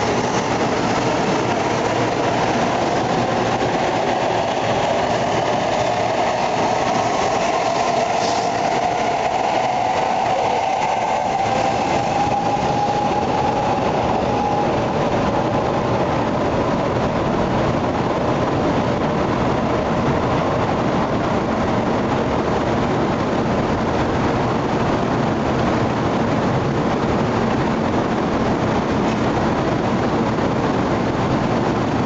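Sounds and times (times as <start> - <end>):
train rushing noise: 0.0 - 32.0.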